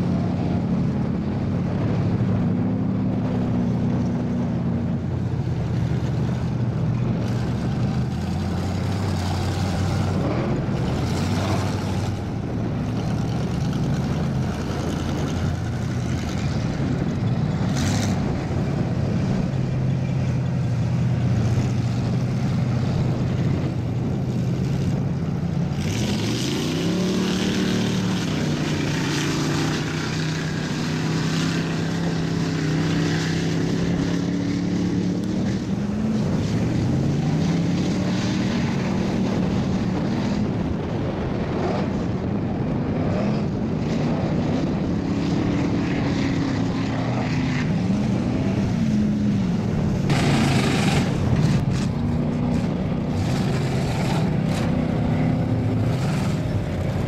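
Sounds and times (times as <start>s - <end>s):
mud truck engines revving: 0.0s - 57.0s.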